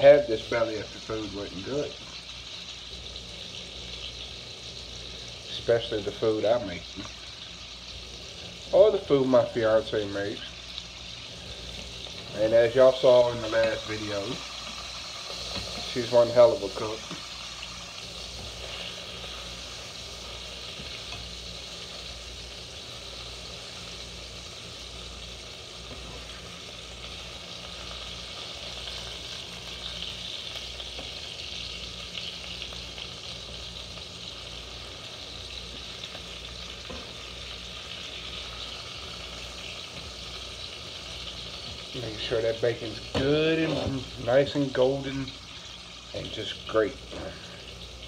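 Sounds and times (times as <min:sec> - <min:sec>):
bacon sizzling in a frying pan: 0:00.0 - 0:48.0.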